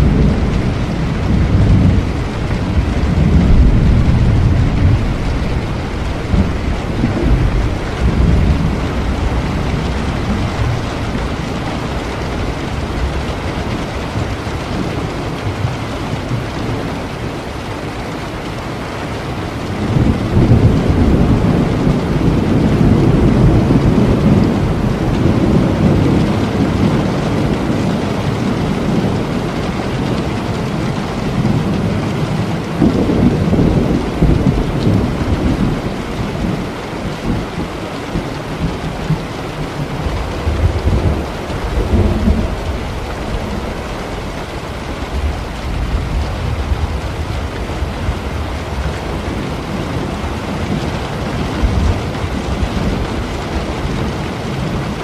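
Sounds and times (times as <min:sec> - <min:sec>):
rolling thunder: 0:00.0 - 0:17.0, 0:19.5 - 0:55.0
heavy rain: 0:00.0 - 0:55.0.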